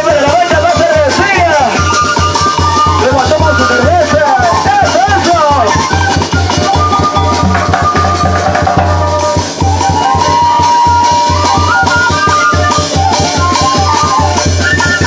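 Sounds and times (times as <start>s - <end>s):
pulsing bass beat: 0.0s - 15.0s
shaker and drum percussion: 0.0s - 15.0s
melody line: 1.7s - 15.0s.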